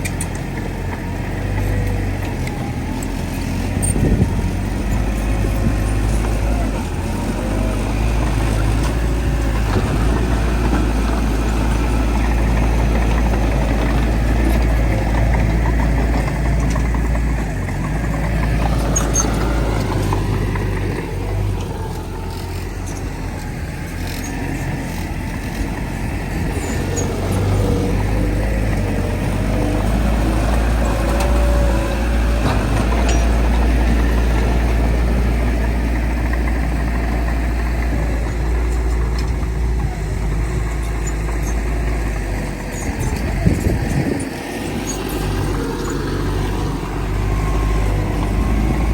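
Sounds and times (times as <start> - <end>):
heavy diesel engines droning: 0.0 - 48.9.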